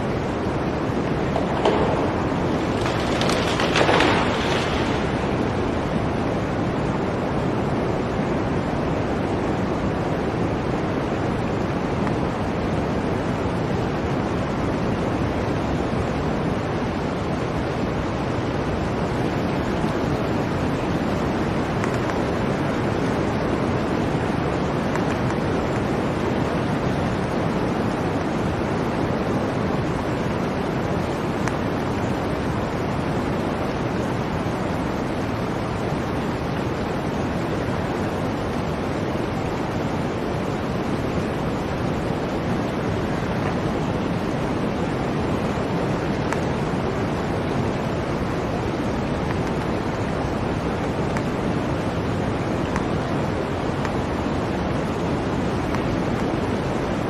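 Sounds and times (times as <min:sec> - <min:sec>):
blizzard wind blowing: 0:00.0 - 0:57.0.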